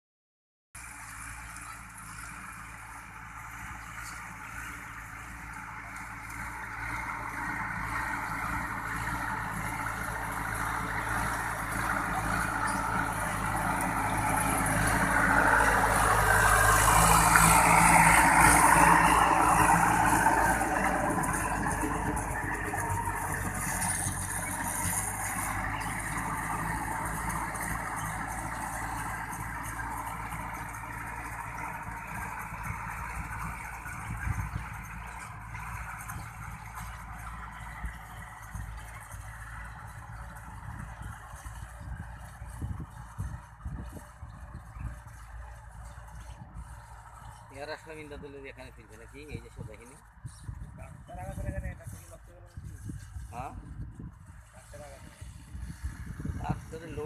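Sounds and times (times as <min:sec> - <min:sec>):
vehicle engine running: 0:00.8 - 0:57.0.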